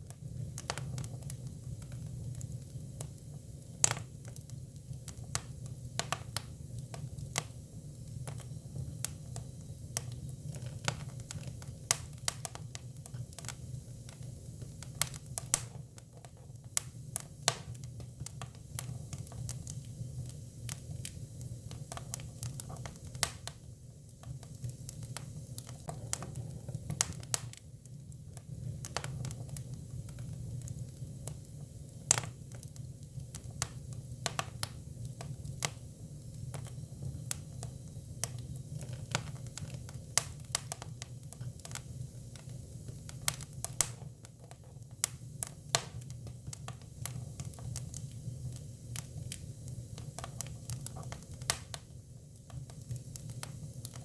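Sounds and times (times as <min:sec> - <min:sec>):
firewood crackling and popping: 0:00.0 - 0:54.0
low rumble of fire: 0:00.0 - 0:54.0.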